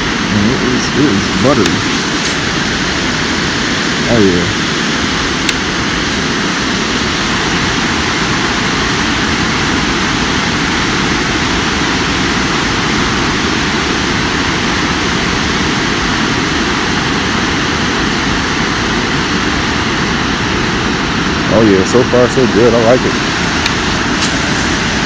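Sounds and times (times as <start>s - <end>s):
loud steady rushing noise: 0.0s - 25.0s.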